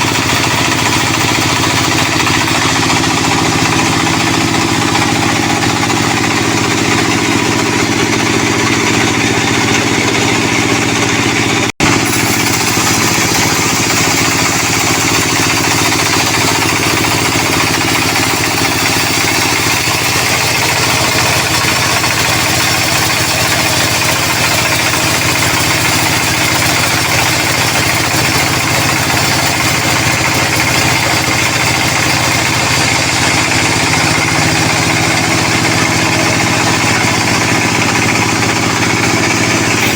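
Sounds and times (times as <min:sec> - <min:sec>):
sawmill machinery sawing log: 0:00.0 - 0:39.9.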